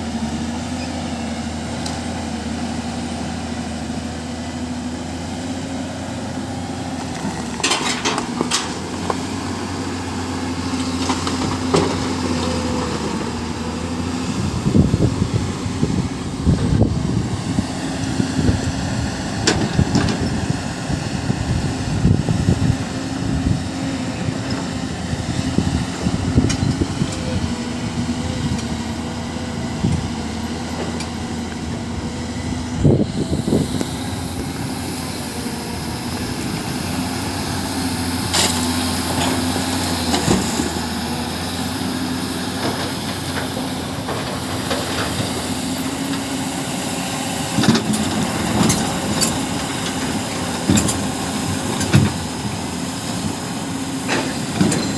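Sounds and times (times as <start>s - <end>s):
heavy machine engine running: 0.0s - 54.9s.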